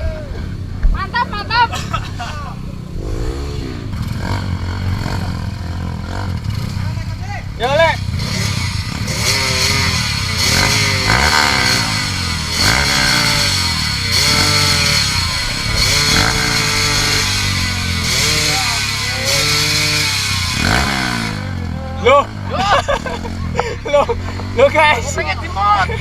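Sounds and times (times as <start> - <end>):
dirt bike engine revving: 0.3 - 26.0.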